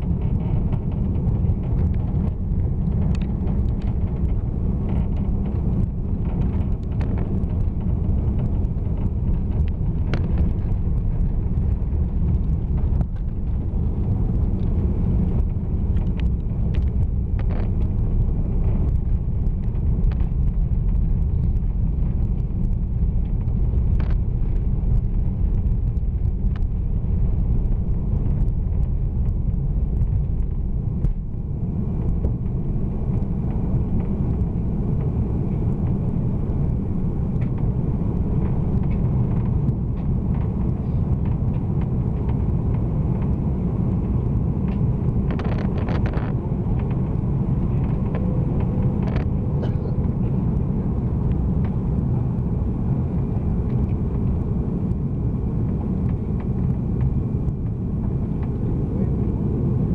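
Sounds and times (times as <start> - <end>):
aircraft engine roar: 0.0 - 59.9.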